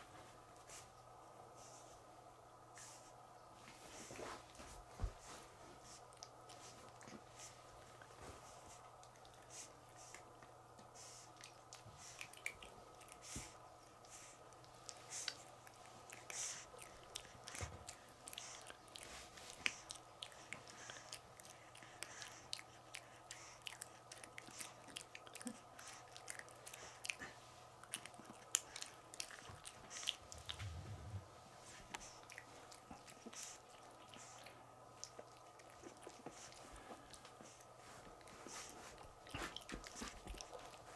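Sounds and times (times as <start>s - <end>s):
steady low hum: 0.0s - 40.9s
puppy chewing on a toy: 3.7s - 40.9s.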